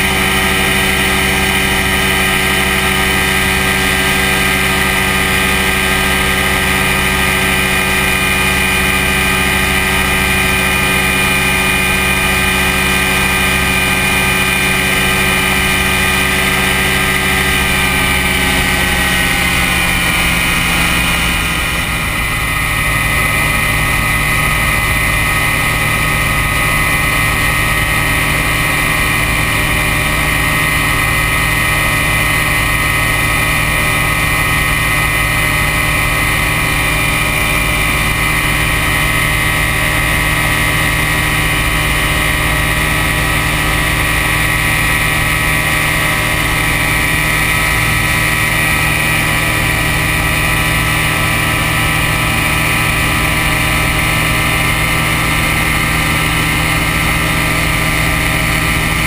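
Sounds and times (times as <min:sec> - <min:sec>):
aircraft engine and propeller: 0:00.0 - 0:59.0.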